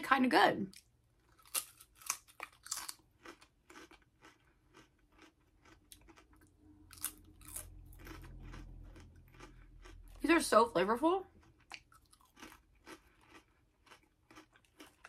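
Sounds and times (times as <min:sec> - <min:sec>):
potato chips crunching: 0:00.7 - 0:15.0.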